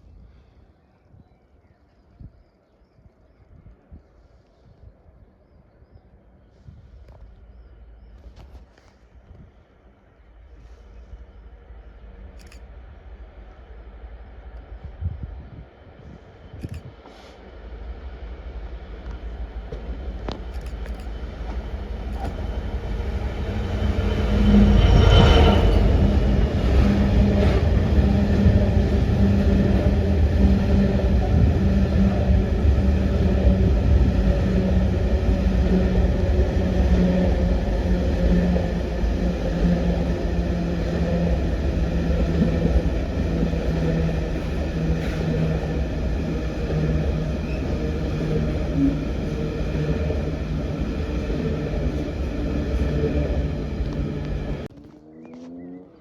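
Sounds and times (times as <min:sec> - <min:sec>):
diesel train passing: 0:09.7 - 0:54.7.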